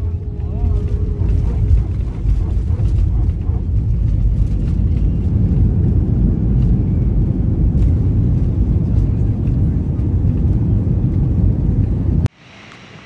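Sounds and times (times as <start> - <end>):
aircraft cabin rumble: 0.0 - 12.3.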